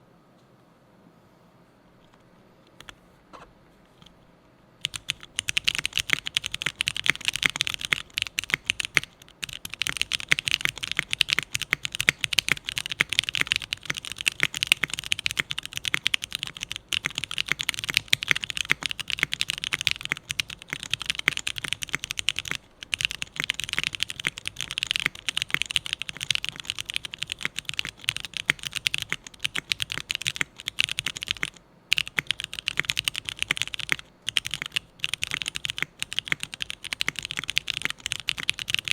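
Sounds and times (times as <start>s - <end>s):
fast typing on mechanical keyboard: 4.8s - 38.9s.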